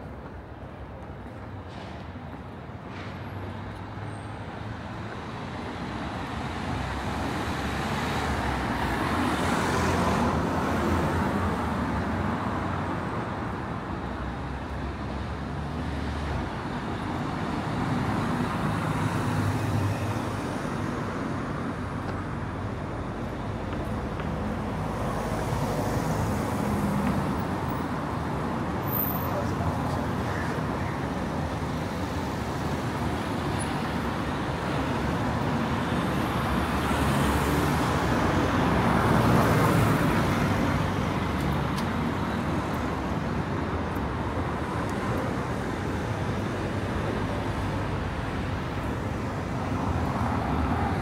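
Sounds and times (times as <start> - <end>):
vehicles passing: 0.0 - 51.0.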